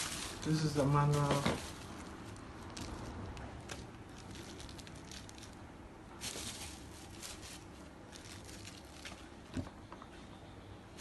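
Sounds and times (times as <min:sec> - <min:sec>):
paper and packaging rustling: 0:00.0 - 0:05.6, 0:06.2 - 0:09.4.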